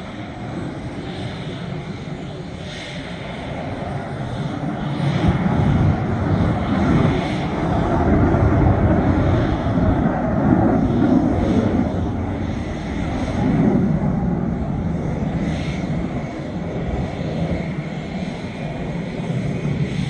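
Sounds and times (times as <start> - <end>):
jet engines deep rumble: 0.0 - 20.0.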